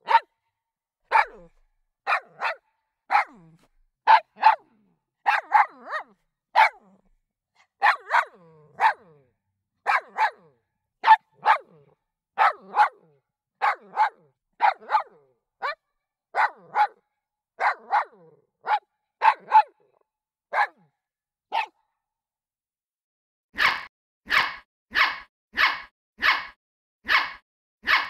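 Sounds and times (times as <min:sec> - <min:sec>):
dog barking: 0:00.0 - 0:00.5, 0:01.1 - 0:21.8, 0:23.6 - 0:28.0.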